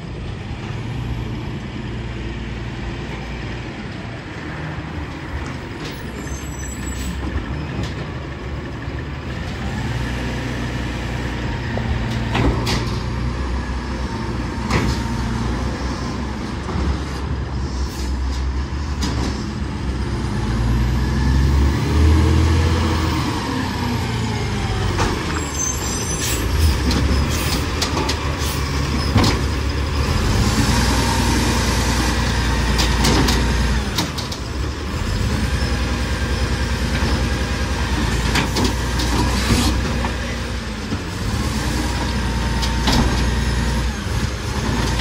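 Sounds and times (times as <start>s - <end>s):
diesel truck engine drone: 0.0s - 45.0s.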